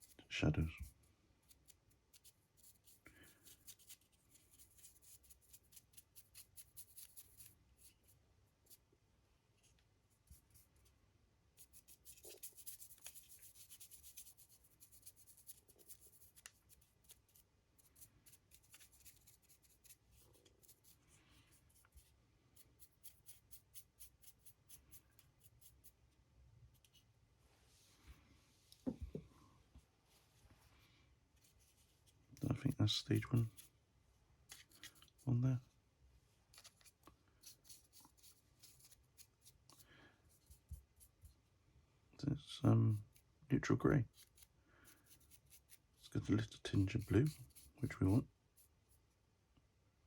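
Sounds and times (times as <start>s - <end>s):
scratchy paintbrush strokes: 0.0s - 8.8s, 9.6s - 28.8s, 30.1s - 33.8s, 34.4s - 35.8s, 36.4s - 41.4s, 42.7s - 49.2s.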